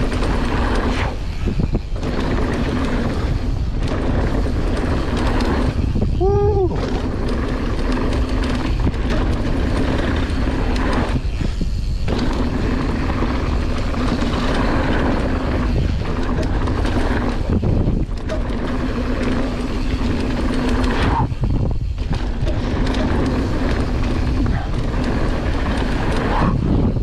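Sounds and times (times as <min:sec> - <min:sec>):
bike tyres rolling on dirt: 0:00.0 - 0:27.0
wind on microphone: 0:00.0 - 0:27.0.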